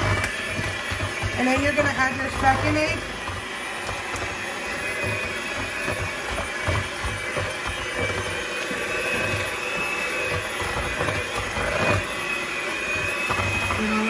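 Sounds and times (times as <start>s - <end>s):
electric hand mixer whirring: 0.0s - 14.0s.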